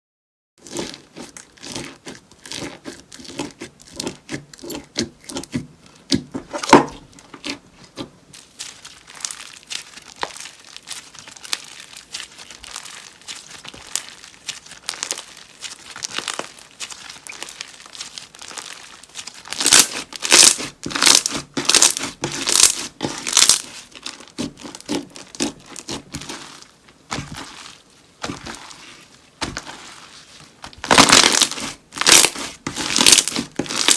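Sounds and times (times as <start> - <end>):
slime crackling and crunching: 0.6 - 33.9.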